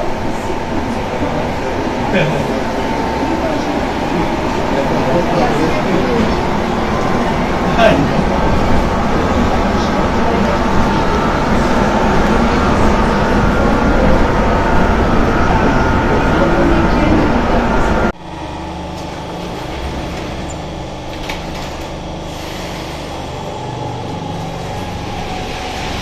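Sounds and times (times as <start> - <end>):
metro platform hum: 0.0 - 26.0
train rumble inside carriage: 0.0 - 26.0.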